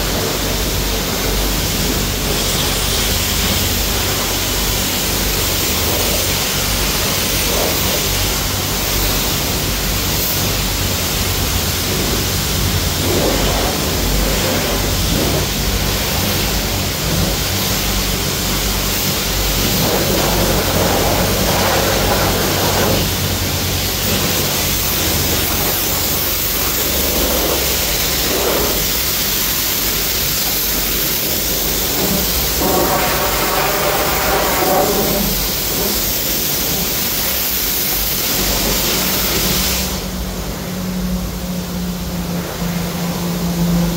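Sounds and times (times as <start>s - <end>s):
high-pressure water spray hissing: 0.0s - 43.9s.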